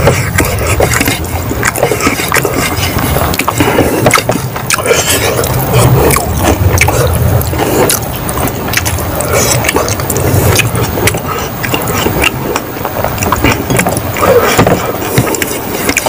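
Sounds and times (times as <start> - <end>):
close chewing and lip-smacking: 0.0 - 16.0.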